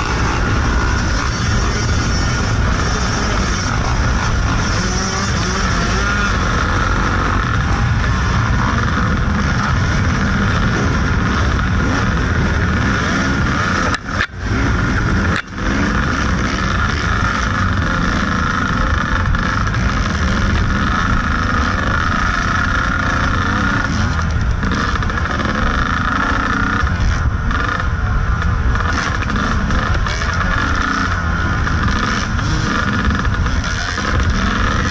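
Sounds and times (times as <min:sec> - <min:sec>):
dirt bike engine running hard: 0:00.0 - 0:34.9
other dirt bikes nearby: 0:00.0 - 0:34.9.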